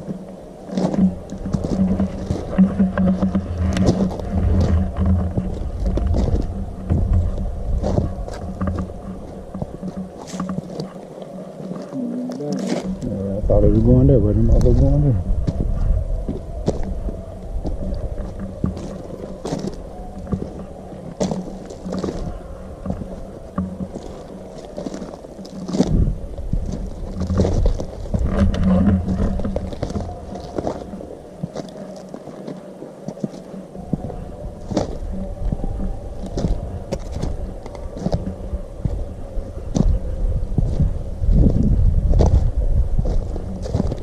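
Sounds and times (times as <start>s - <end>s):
low rumble: 0.0s - 11.2s, 11.8s - 31.4s, 33.8s - 44.0s.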